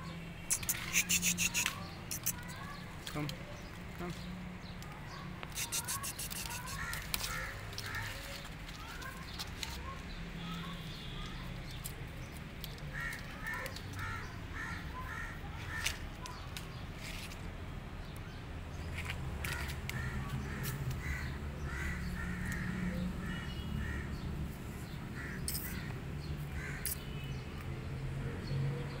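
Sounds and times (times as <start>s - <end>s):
birds harsh calls: 0.0s - 17.4s, 18.8s - 27.4s.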